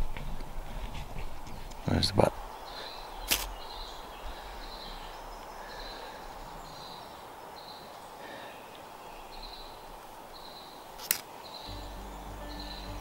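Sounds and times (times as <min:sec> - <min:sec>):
outdoor hiss: 0:00.0 - 0:13.0
bird calling: 0:02.4 - 0:13.0.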